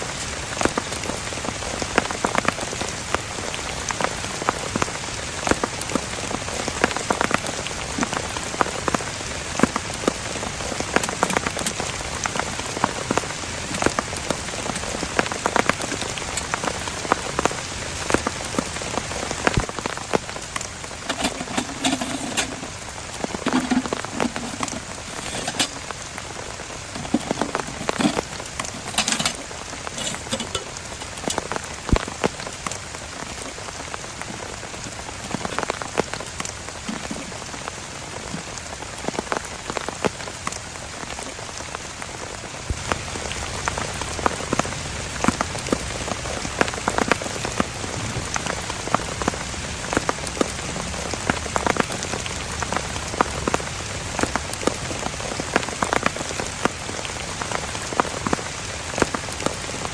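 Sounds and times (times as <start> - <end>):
heavy rain on a surface: 0.0 - 59.9.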